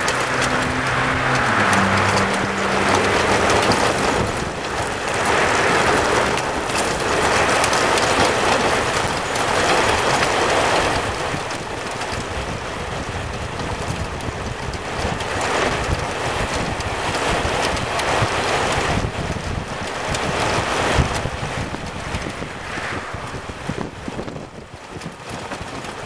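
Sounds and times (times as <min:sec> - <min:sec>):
tyres rolling on asphalt: 0:00.0 - 0:26.0
wind rushing over microphone: 0:00.0 - 0:26.0.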